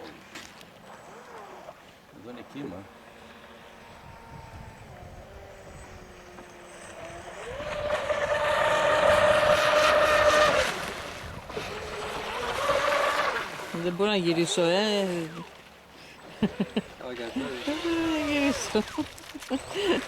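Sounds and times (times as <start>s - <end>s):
model speedboat motor whining: 0.0s - 20.0s.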